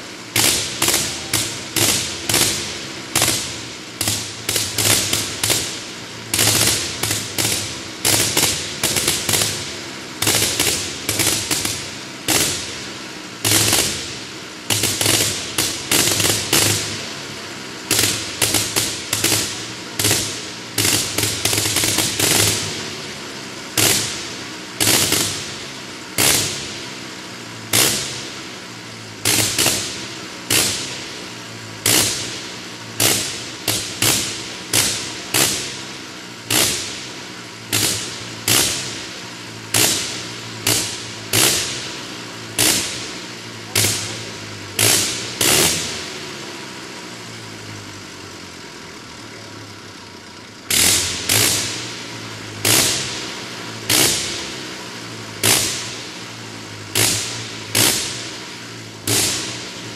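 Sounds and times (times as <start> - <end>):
engine bangs: 0.0 - 59.9.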